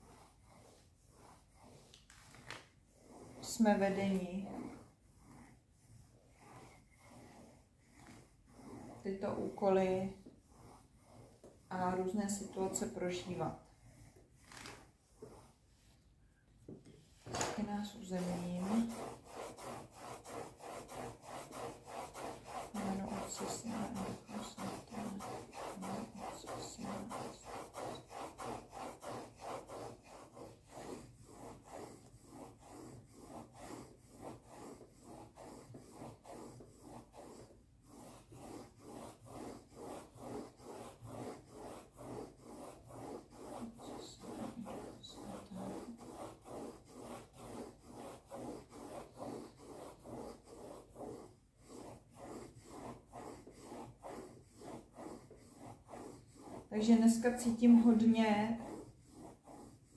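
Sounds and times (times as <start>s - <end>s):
pencil scratching on paper: 0.0s - 16.0s, 16.8s - 59.9s.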